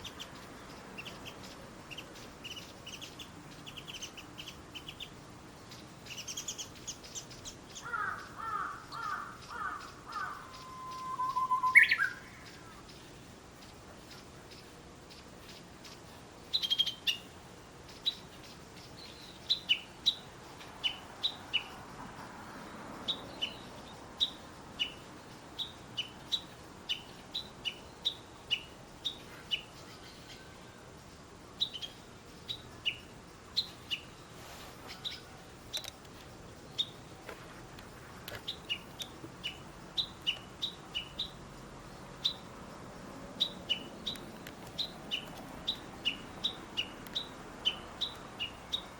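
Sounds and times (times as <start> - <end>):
bird chirping: 0.0 - 21.9, 22.5 - 30.9, 31.5 - 48.9
faint steady hiss: 0.0 - 48.9.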